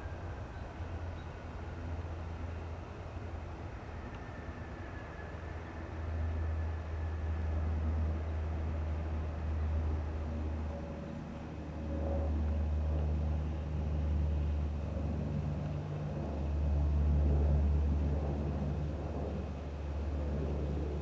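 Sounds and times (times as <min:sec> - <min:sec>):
jet engines low rumble: 0:00.0 - 0:21.0.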